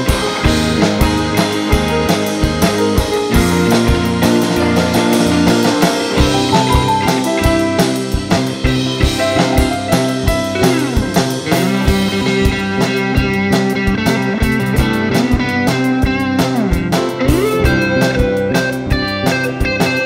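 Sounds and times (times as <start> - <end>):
live band playing: 0.0 - 20.0
sliding guitar notes: 0.0 - 20.0.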